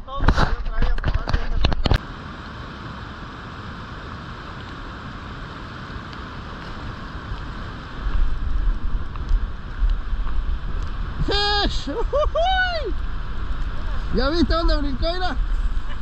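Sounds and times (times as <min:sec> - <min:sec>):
river water rushing: 0:02.0 - 0:16.0.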